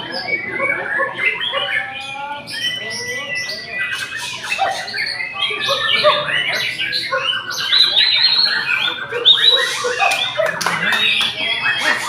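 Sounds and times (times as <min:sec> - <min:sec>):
bird singing whistles and chirps: 0:00.0 - 0:10.4.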